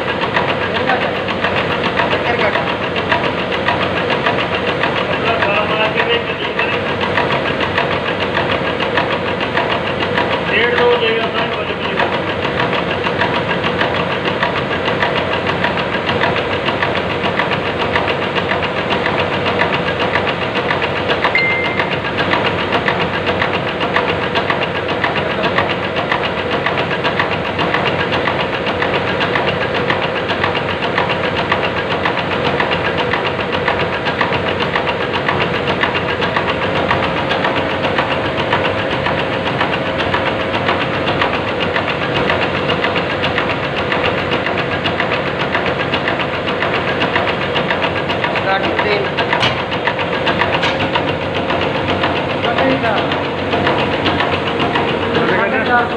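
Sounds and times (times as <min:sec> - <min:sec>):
fuel pump test bench running: 0:00.0 - 0:55.9
rapid even ticking: 0:00.0 - 0:55.9.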